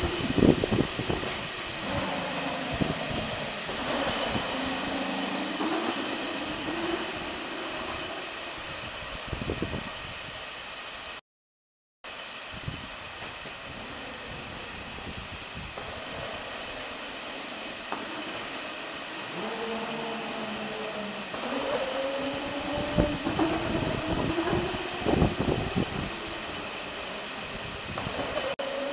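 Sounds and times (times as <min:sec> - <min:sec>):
conveyor rollers humming: 0:00.0 - 0:11.0, 0:12.1 - 0:28.9
steady background hiss: 0:00.0 - 0:11.2, 0:12.1 - 0:28.9.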